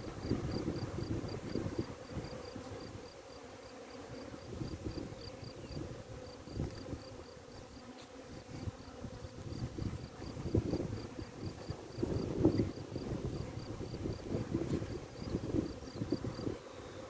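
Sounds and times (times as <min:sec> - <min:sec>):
wind rumble on microphone: 0:00.0 - 0:03.0, 0:04.2 - 0:07.2, 0:08.5 - 0:16.6
honeybees buzzing: 0:00.0 - 0:17.0.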